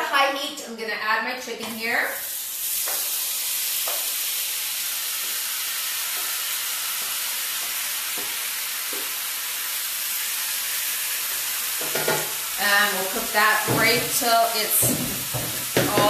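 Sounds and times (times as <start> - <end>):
chicken sizzling in hot oil: 2.0 - 16.0.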